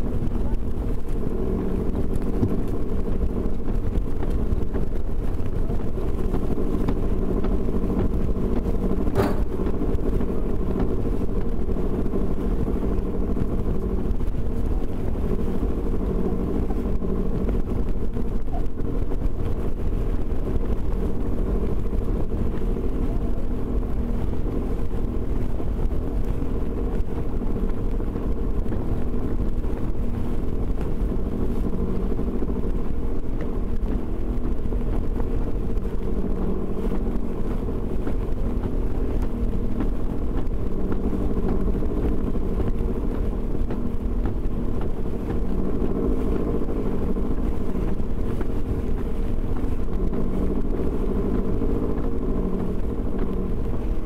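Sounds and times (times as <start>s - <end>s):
boat engine humming: 0.0s - 54.0s
wind buffeting microphone: 0.0s - 54.0s.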